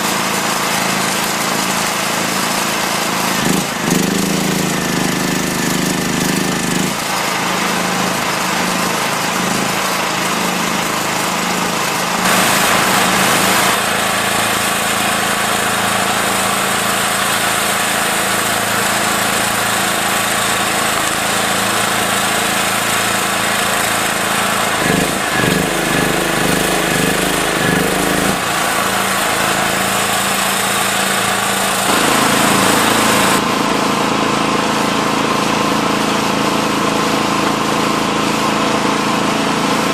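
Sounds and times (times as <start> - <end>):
log splitter motor hum: 0.0 - 39.9.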